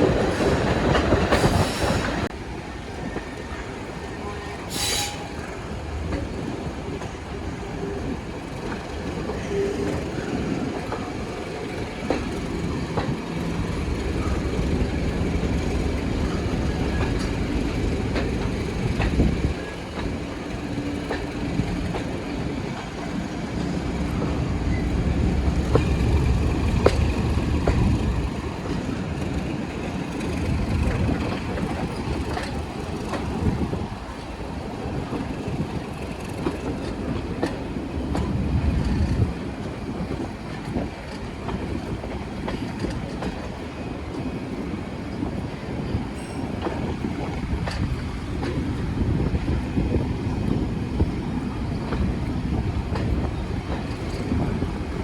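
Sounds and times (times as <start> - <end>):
train rumble: 0.0 - 55.0
wheels clicking on track: 5.7 - 55.0.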